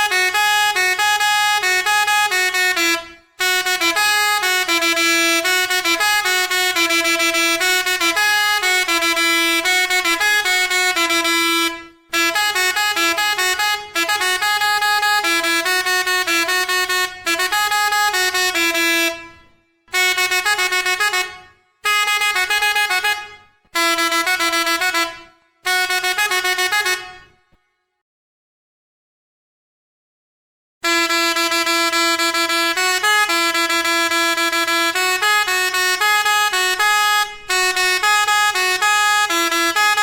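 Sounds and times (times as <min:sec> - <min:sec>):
musical truck air horn: 0:00.0 - 0:28.0, 0:30.8 - 0:40.0.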